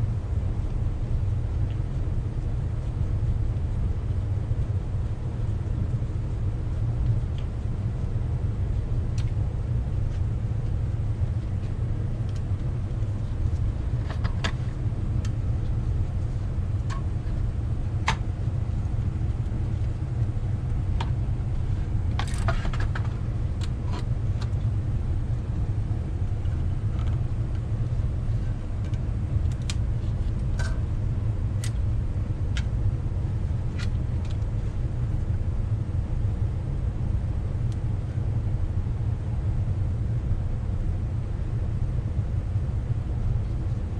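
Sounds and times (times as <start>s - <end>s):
steady low rumble: 0.0s - 43.9s.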